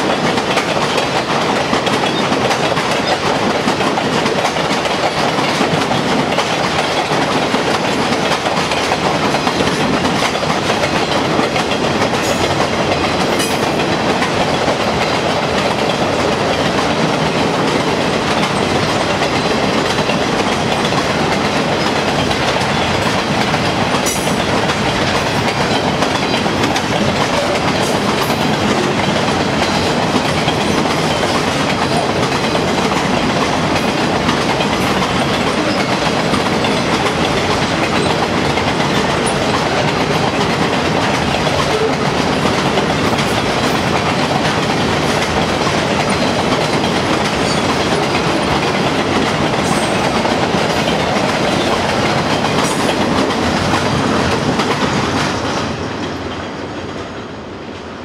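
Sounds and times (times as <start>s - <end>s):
train rolling over bridge: 0.0s - 58.0s.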